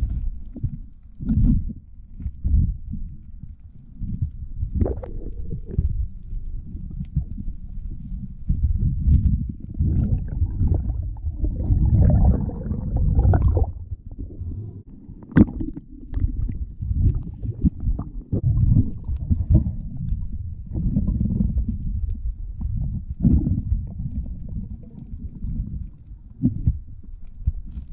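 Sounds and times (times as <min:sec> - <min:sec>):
muffled underwater water rumble: 0:00.0 - 0:27.9.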